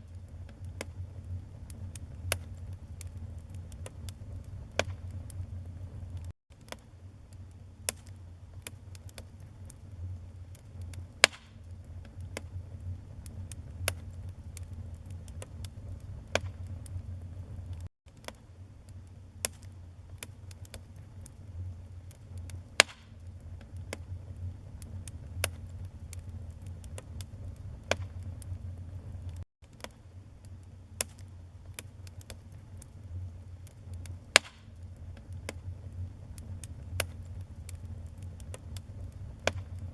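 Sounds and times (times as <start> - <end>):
low steady rumble: 0.0 - 6.3, 6.9 - 29.4, 30.0 - 39.9
wood fire crackling: 0.0 - 39.9.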